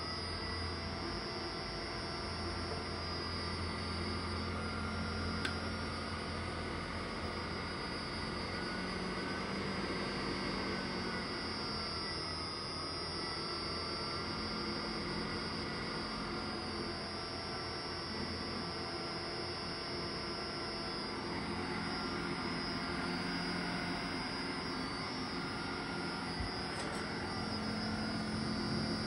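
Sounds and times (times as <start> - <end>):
fan whirring with whine: 0.0 - 29.0.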